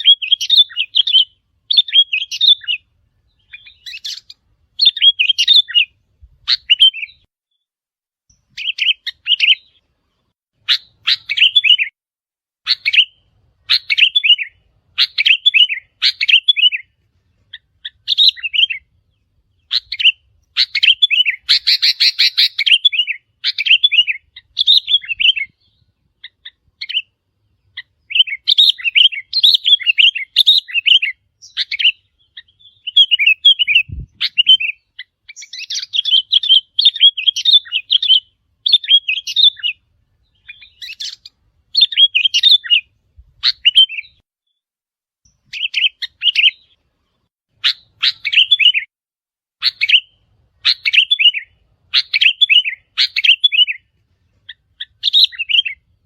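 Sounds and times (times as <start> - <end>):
bulbuls singing: 0.0 - 7.3, 8.3 - 11.9, 12.6 - 44.2, 45.3 - 48.9, 49.6 - 56.0.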